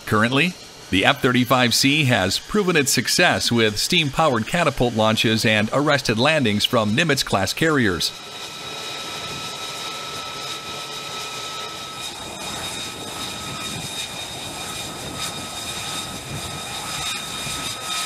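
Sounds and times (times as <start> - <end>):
jet engine running: 0.0 - 18.0.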